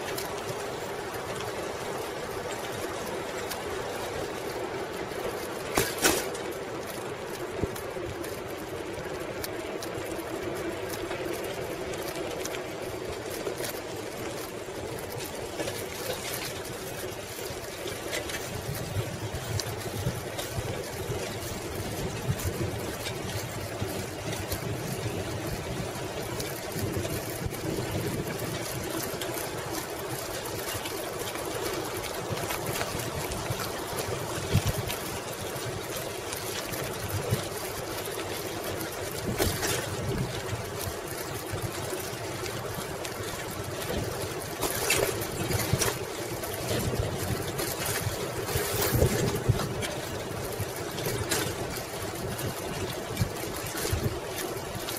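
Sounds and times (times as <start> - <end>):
bicycle tyres rumbling: 0.0 - 54.9
bike knocks and rattles: 0.0 - 54.9.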